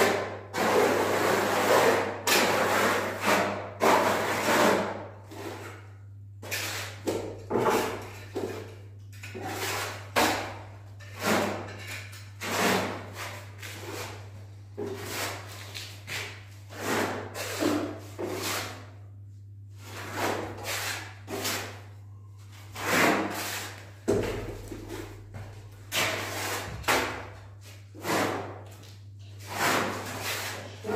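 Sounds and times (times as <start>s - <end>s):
trowel scraping plaster: 0.0s - 19.1s, 19.8s - 22.0s, 22.6s - 24.0s, 25.9s - 30.9s.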